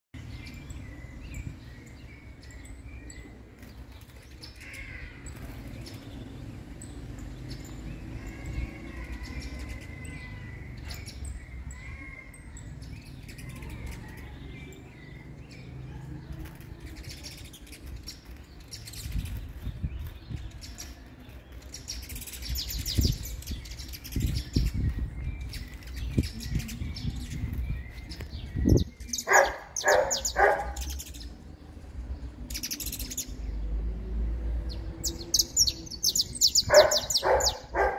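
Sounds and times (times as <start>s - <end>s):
finches chirping and calling: 0.2s - 37.9s.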